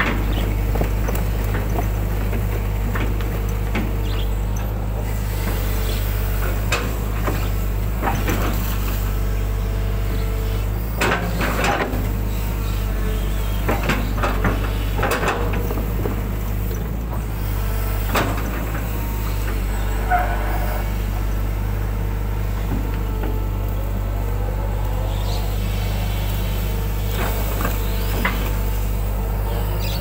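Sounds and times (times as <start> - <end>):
excavator diesel engine: 0.0 - 30.0.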